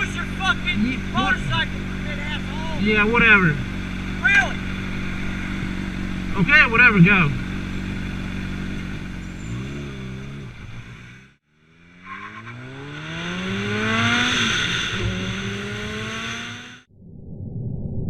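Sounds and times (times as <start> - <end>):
motorcycle engine accelerating: 0.0 - 16.9
motorcycle engine revving: 0.0 - 16.9.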